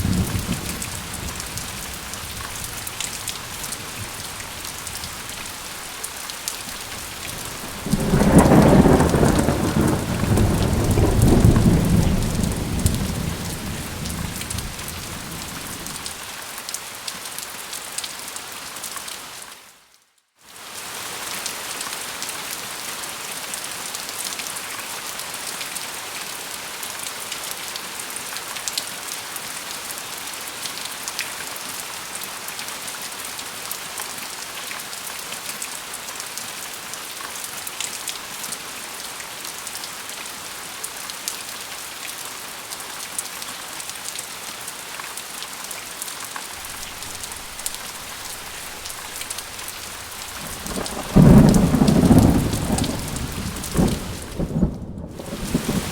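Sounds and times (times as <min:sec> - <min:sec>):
rain pattering on hard surface: 0:00.0 - 0:19.3, 0:20.8 - 0:55.9.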